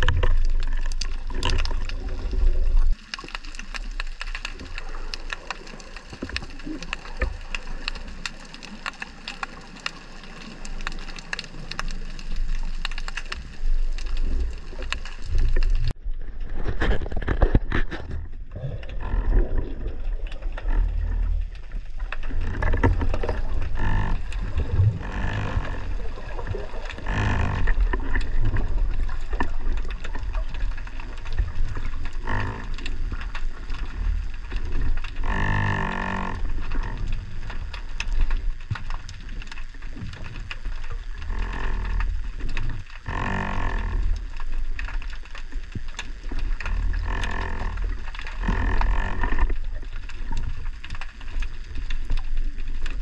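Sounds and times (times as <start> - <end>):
underwater rumble of moving water: 0.0 - 53.0.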